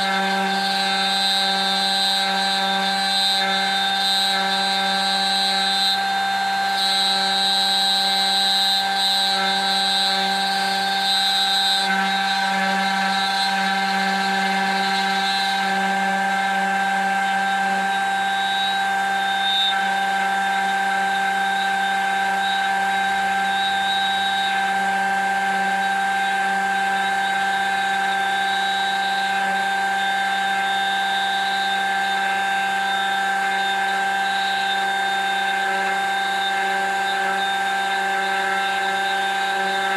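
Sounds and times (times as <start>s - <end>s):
wood router whining: 0.0s - 39.9s.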